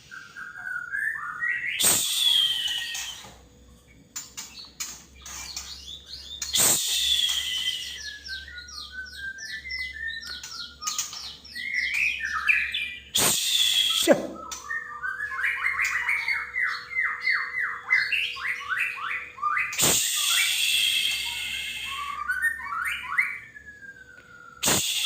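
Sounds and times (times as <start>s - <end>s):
bird singing whistled song: 0.0s - 25.0s
faint steady hum: 0.0s - 25.0s.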